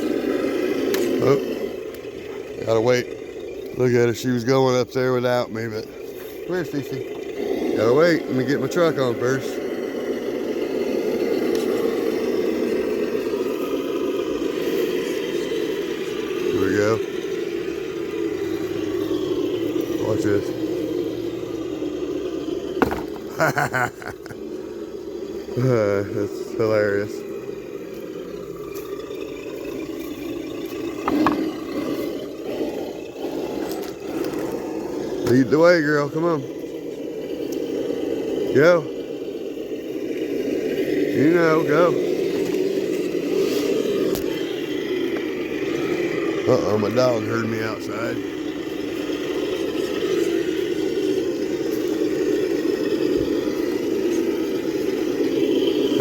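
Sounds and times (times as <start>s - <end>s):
rc car motor and gears running: 0.0s - 56.0s.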